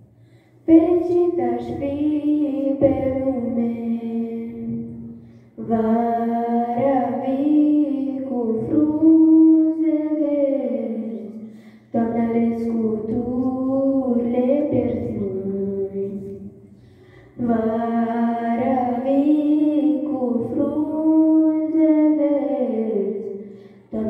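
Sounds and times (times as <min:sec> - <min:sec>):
girl and boy singing folk song: 0:00.7 - 0:24.0.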